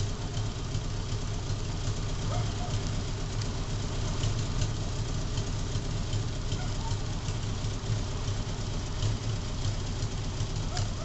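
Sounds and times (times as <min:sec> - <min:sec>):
exhaust leak: 0:00.0 - 0:11.0
motorcycle engine idling: 0:00.0 - 0:11.0.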